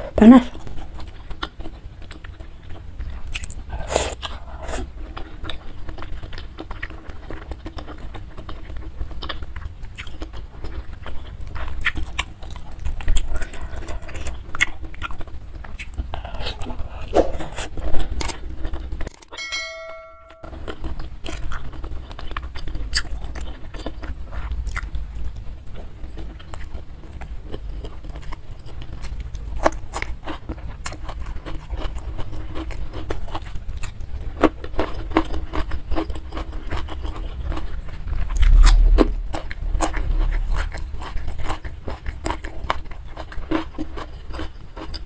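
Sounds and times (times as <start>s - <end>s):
wet chewing and biting: 0.6s - 19.2s, 20.8s - 45.0s.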